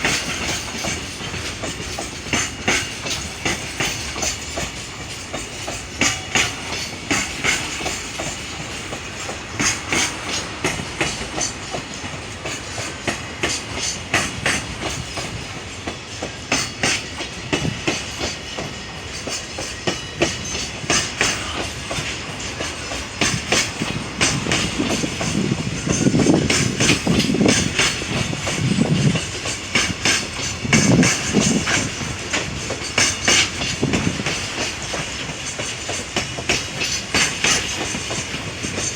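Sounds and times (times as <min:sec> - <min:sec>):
heavy train rumbling: 0:00.0 - 0:38.9
train wheels clacking over rail joints: 0:00.0 - 0:38.9.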